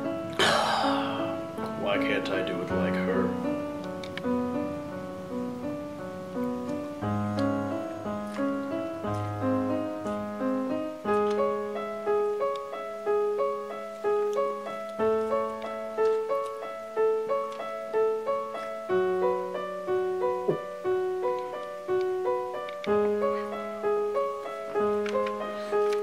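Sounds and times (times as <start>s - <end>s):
gentle solo piano: 0.0s - 26.0s.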